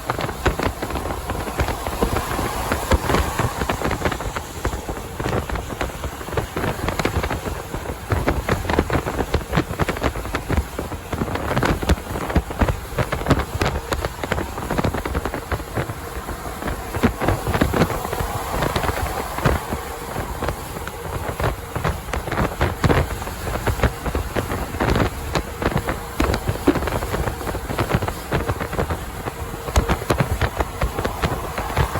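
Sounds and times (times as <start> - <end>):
truck road noise rumble: 0.0 - 31.9
wind buffeting microphone: 0.0 - 31.9.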